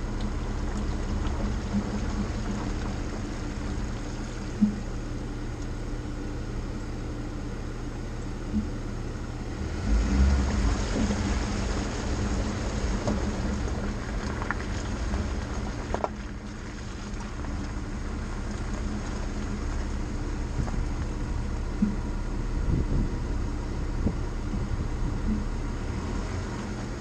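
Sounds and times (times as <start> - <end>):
water splashing under wheels: 0.0 - 7.1, 8.1 - 27.0
vehicle engine and tyres rumbling: 0.0 - 27.0.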